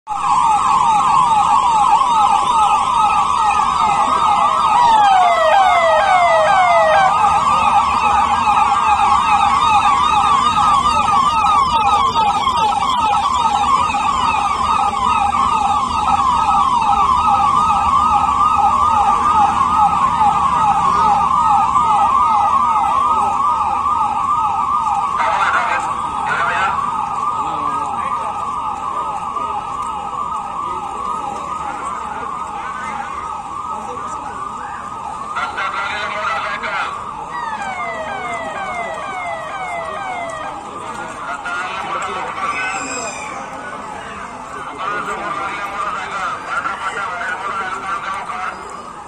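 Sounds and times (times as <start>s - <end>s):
low traffic rumble: 0.1s - 49.0s
police siren yelping: 0.1s - 49.0s
second siren sweeping: 0.1s - 49.0s.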